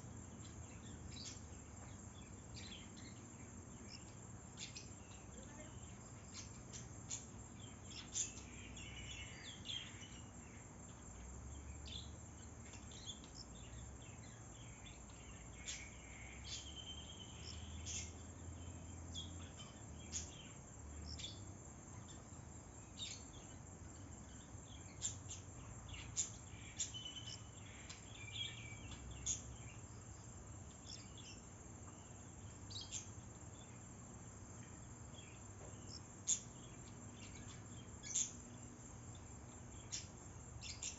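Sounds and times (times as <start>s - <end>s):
high insect drone: 0.0s - 40.9s
bird chirps and calls: 0.3s - 10.5s, 11.8s - 22.3s, 24.3s - 33.7s, 35.1s - 40.9s.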